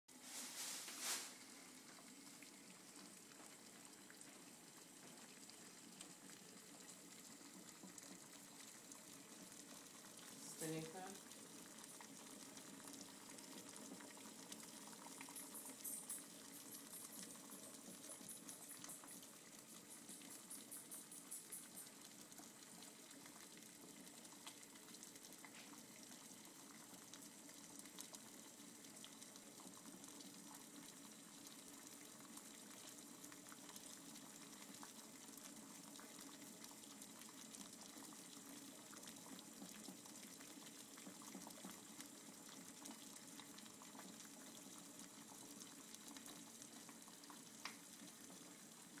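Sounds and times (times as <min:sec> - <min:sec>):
water boiling in a pot: 0:00.1 - 0:49.0.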